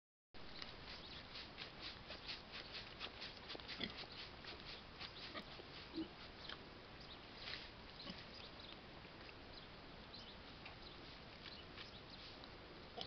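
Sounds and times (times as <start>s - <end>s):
pig rooting and chewing: 0.4s - 6.7s, 7.4s - 9.4s, 10.6s - 13.0s.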